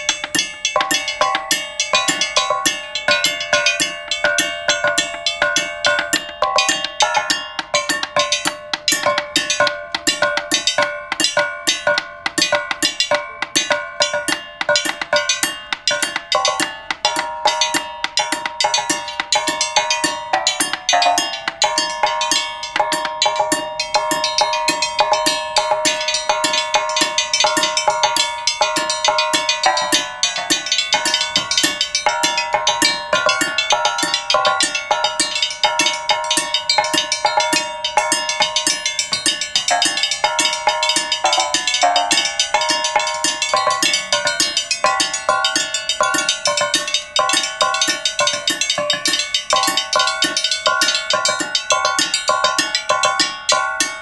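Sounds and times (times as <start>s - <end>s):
metal tubes struck ringing: 0.0s - 54.0s.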